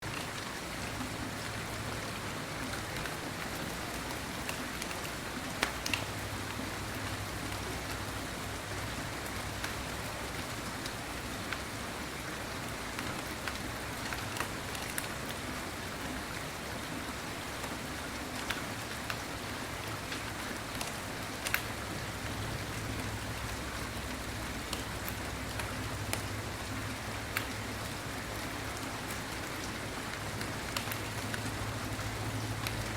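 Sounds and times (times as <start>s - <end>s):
louder raindrops ticking: 0.0s - 32.9s
steady rain falling: 0.0s - 32.9s.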